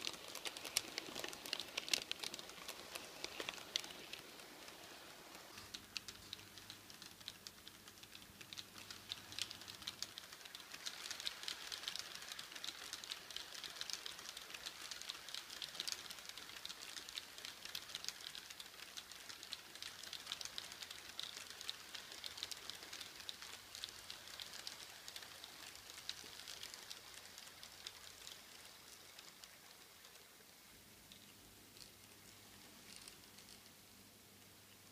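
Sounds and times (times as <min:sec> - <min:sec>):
faint low hum: 0:00.0 - 0:34.9
model train wheels clicking: 0:00.0 - 0:34.9.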